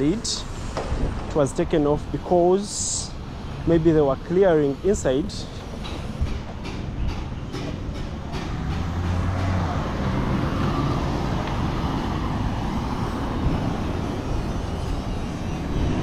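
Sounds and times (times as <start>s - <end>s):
traffic rumbling past: 0.0s - 16.0s.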